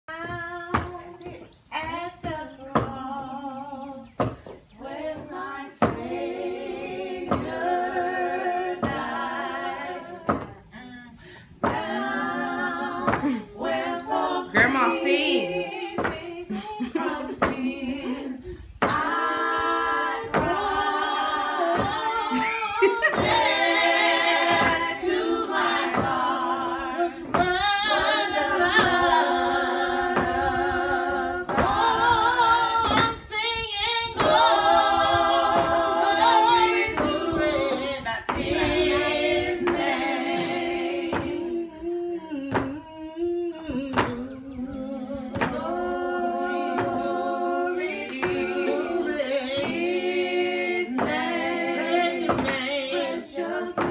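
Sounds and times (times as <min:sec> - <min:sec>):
voices singing a cappella: 0:00.0 - 0:53.9.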